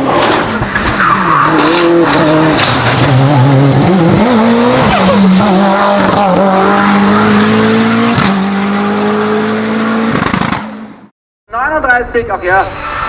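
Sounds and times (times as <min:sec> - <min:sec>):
race car engine accelerating: 0:00.0 - 0:11.1.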